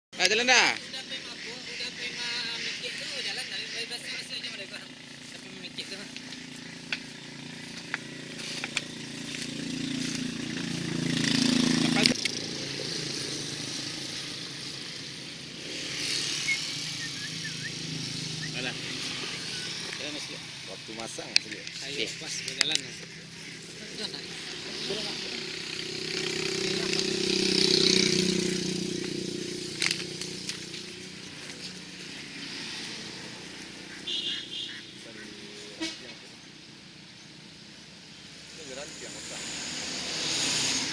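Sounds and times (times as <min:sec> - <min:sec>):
small engine humming: 0:01.2 - 0:34.6, 0:38.3 - 0:40.9.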